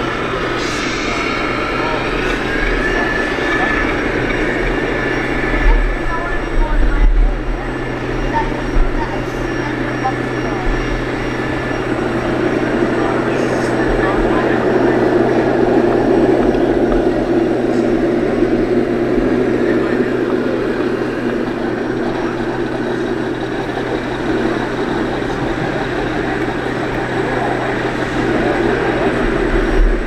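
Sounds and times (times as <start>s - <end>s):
diesel engine sound from speaker: 0.0s - 30.0s.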